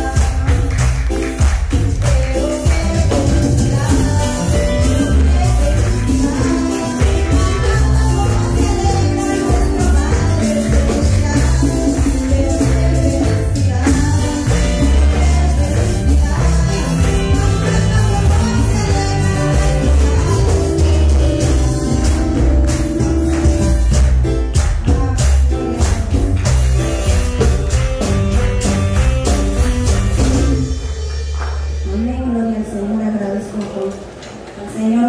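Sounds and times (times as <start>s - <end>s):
tambourine beat: 0.0s - 31.8s
bass line: 0.0s - 33.0s.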